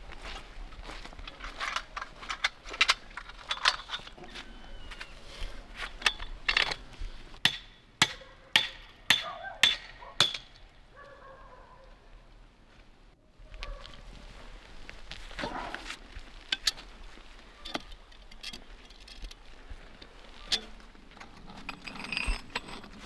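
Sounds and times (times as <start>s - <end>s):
handling noises: 0.6s - 7.5s, 8.2s - 23.0s.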